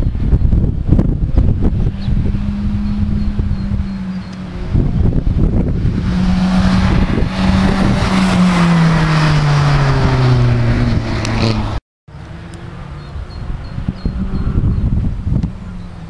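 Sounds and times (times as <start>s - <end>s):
rally car passing at speed: 1.6s - 15.8s.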